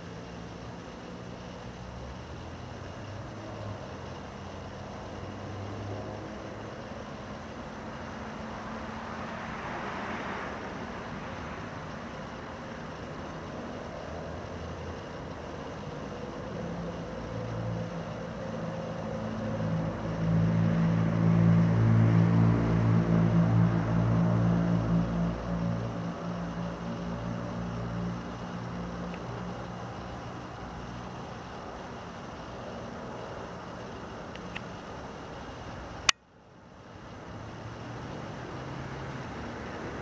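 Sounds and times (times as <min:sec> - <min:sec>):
low engine hum: 0:00.0 - 0:40.0.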